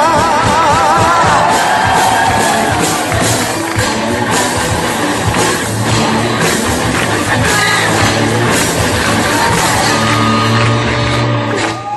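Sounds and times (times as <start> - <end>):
drum kit: 0.0 - 11.9
guitars: 0.0 - 11.9
live rock band playing: 0.0 - 11.9.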